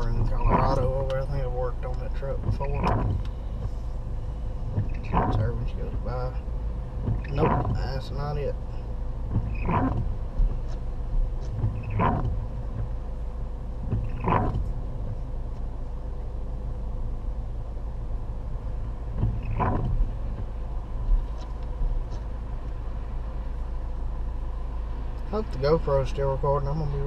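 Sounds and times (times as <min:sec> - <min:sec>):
road and engine rumble in cabin: 0:00.0 - 0:27.0.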